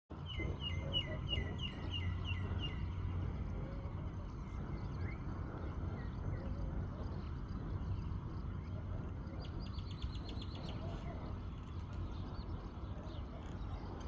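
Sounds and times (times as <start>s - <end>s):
steady low rumble: 0.1s - 14.0s.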